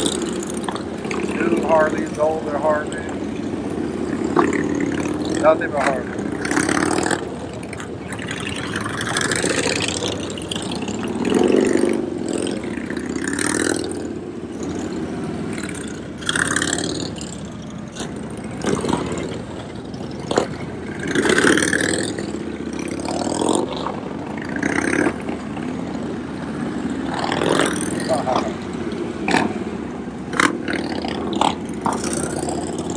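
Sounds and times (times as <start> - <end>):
motorcycles revving: 0.0 - 32.9.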